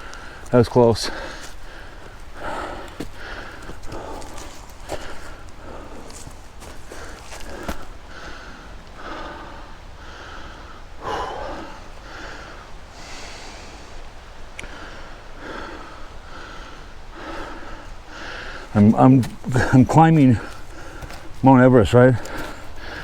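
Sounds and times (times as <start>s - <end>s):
man panting: 0.0s - 14.0s, 14.6s - 23.0s.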